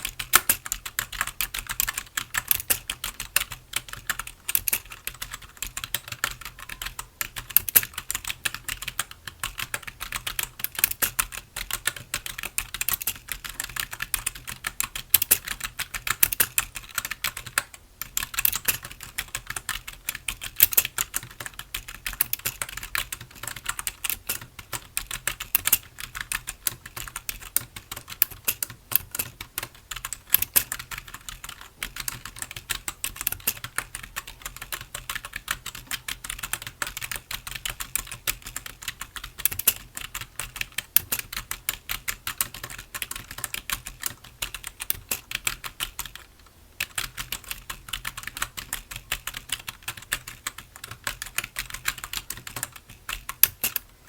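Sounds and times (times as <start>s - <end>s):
typing on computer keyboard: 0.0s - 54.0s.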